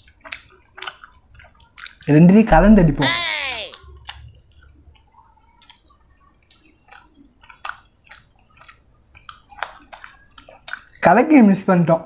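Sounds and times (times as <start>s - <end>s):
wet eating and chewing: 0.0s - 11.8s.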